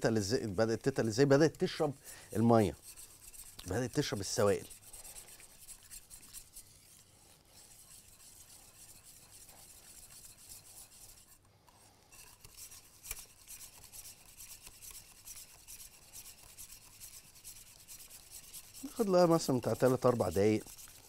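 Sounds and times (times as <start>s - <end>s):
whisk scraping a metal saucepan: 0.0s - 21.0s.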